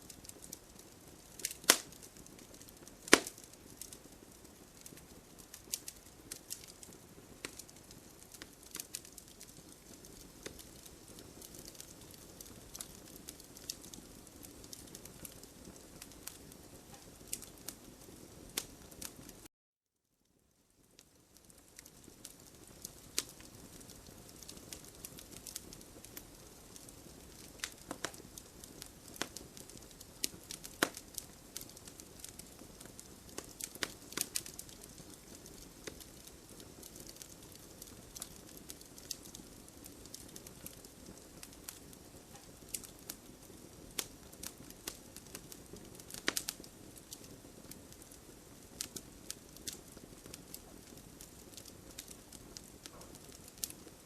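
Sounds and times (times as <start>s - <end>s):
fire crackling in a fireplace: 0.0s - 19.5s, 20.1s - 54.0s.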